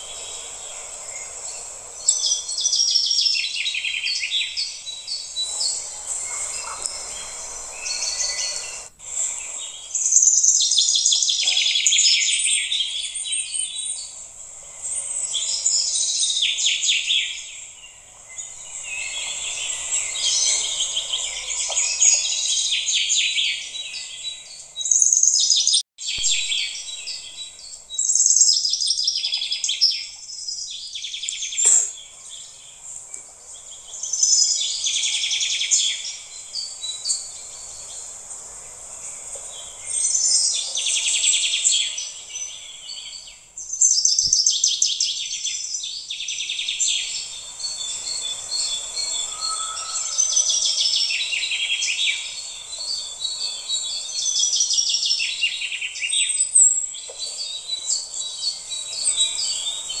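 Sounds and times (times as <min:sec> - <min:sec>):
birds chirping and trilling: 0:00.0 - 1:00.0
faint steady hiss: 0:00.0 - 1:00.0.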